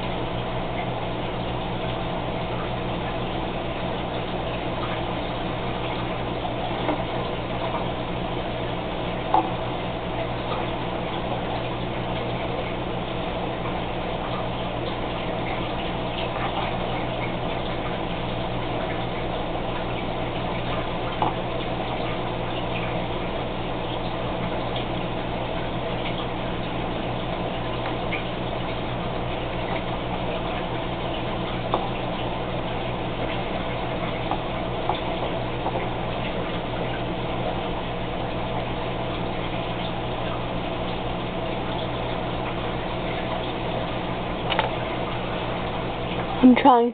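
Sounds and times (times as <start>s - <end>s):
air bubbling in water: 0.0s - 46.4s
aquarium air pump humming: 0.0s - 46.9s.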